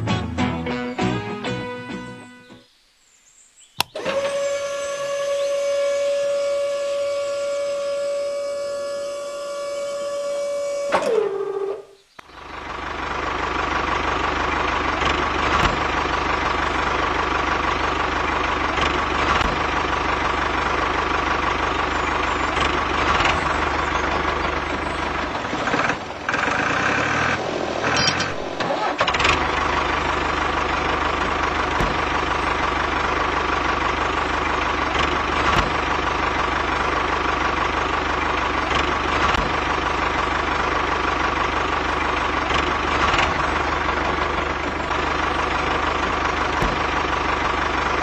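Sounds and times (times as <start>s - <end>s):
engine-like running noise: 3.8s - 48.0s
small motor whining: 3.8s - 48.0s.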